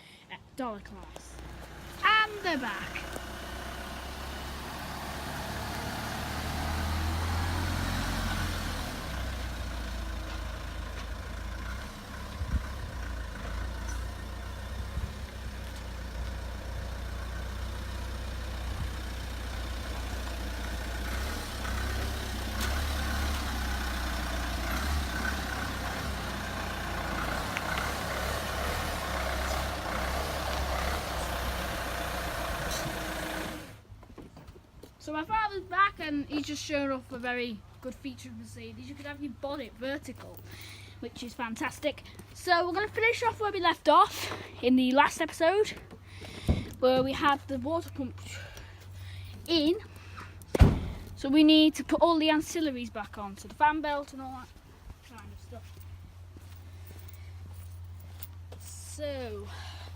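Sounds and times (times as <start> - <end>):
vehicle engine rumbling: 0.8 - 59.9.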